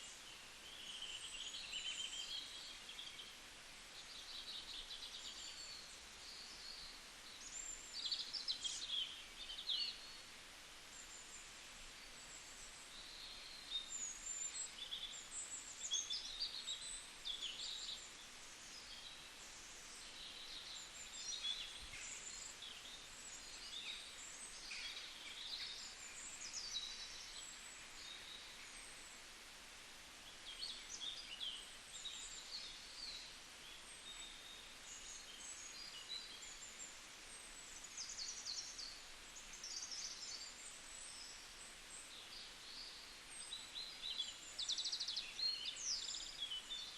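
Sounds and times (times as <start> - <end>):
faint steady hiss: 0.0 - 46.9
small songbirds chirping: 0.0 - 46.9.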